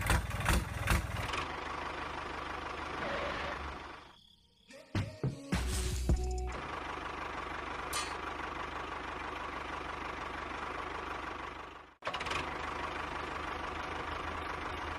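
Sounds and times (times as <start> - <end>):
tractor engine chugging: 0.0 - 3.0, 5.0 - 14.9.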